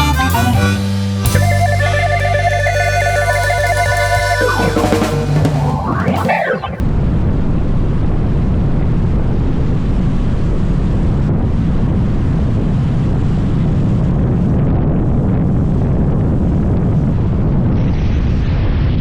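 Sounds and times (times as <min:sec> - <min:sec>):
wind noise on microphone: 0:03.2 - 0:19.0.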